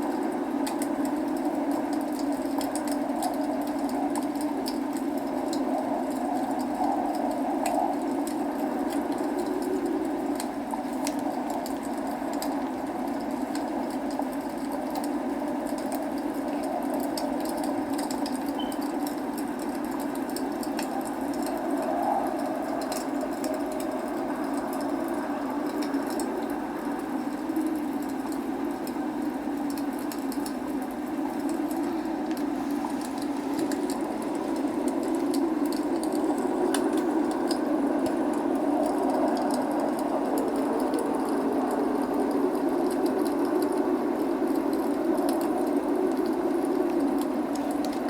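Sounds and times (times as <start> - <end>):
log fire crackling: 0.0 - 48.0
rain rushing: 0.0 - 48.0.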